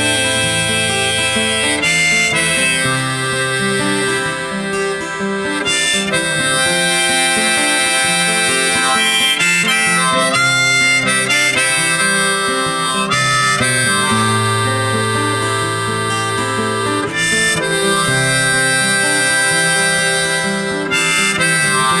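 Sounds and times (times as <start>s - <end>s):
guitar accompaniment: 0.0s - 22.0s
harmonica melody: 0.0s - 22.0s.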